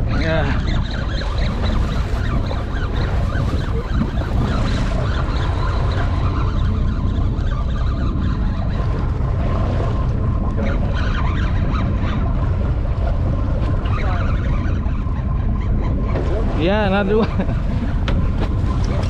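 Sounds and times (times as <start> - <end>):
boat engine running: 0.0 - 19.0
sea water sloshing: 0.0 - 19.0
wind buffeting microphone: 0.0 - 19.0.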